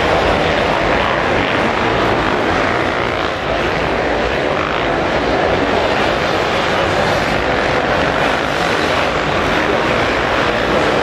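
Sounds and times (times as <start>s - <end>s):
motocross bikes racing: 0.0s - 11.0s.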